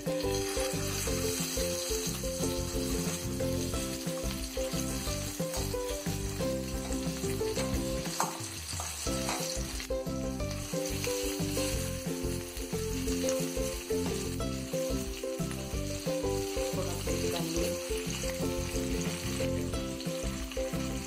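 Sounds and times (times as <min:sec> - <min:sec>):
fish sizzling in hot oil: 0:00.0 - 0:21.0
soft background music: 0:00.0 - 0:21.0.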